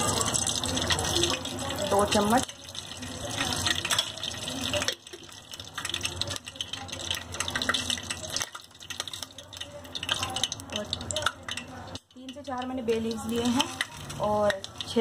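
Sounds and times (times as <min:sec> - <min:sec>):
hot oil sizzling in a pot: 0:00.0 - 0:15.0.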